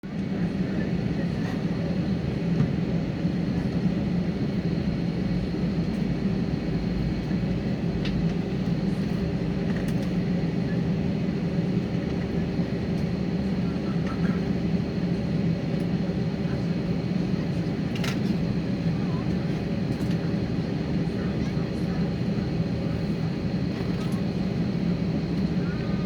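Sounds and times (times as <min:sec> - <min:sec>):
airliner engines humming in cabin: 0:00.0 - 0:26.0.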